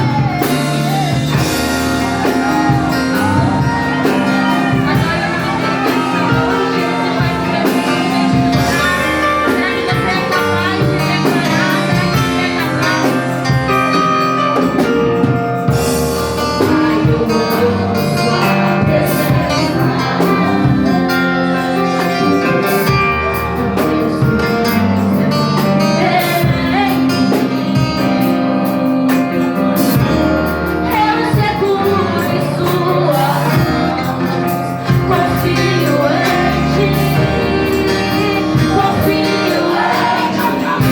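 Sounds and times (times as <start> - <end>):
song with singing and guitar: 0.0 - 40.9.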